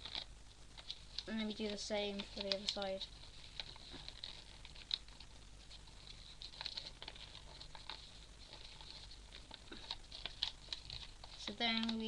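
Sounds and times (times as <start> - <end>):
low fan hum: 0.0 - 12.0
paper being folded and creased: 0.0 - 12.0.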